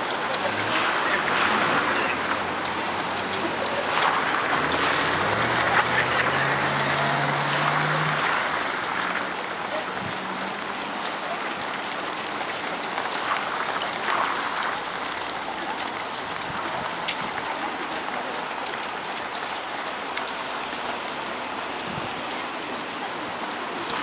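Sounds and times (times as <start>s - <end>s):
runners' footsteps on asphalt: 0.0s - 7.6s, 8.5s - 24.0s.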